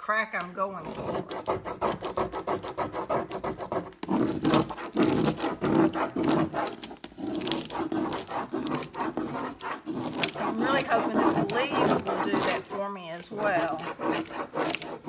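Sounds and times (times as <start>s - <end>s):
rubbing strokes on a surface: 0.9s - 15.0s.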